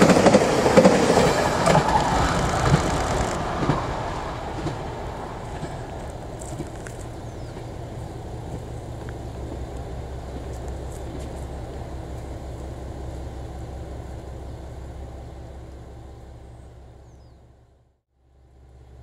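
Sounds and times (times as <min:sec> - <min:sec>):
diesel railcar idling: 0:00.0 - 0:19.0.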